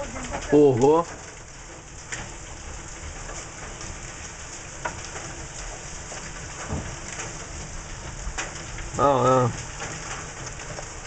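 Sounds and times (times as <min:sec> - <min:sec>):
rain and hail falling: 0:00.0 - 0:11.0.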